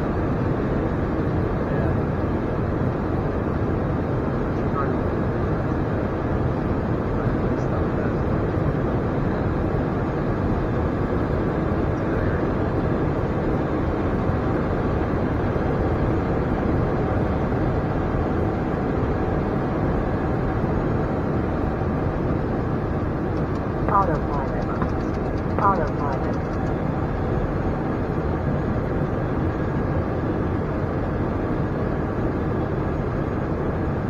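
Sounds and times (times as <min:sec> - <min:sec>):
airliner cockpit engine noise: 0:00.0 - 0:34.0.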